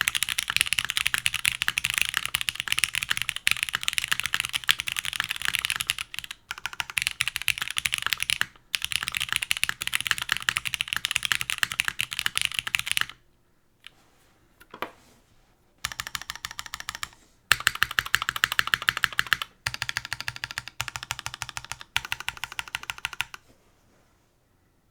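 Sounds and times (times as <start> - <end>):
mechanical keyboard typing: 0.0 - 13.2, 15.8 - 23.4.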